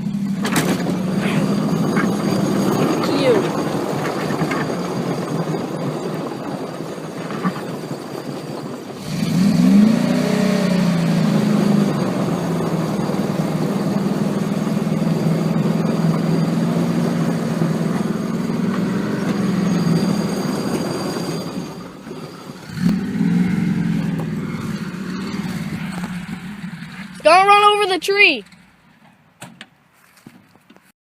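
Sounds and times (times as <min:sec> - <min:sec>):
pickup truck engine revving: 0:00.0 - 0:29.0.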